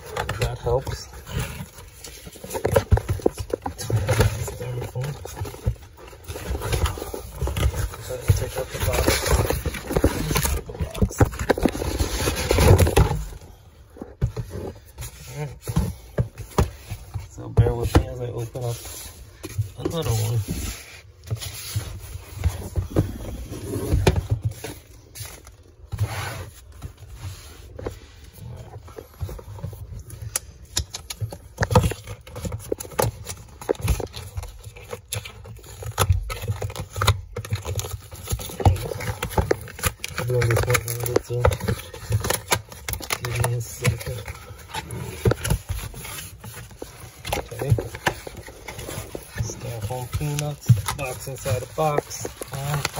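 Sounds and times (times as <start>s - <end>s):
cardboard box rustling and scraping: 0.0s - 52.9s.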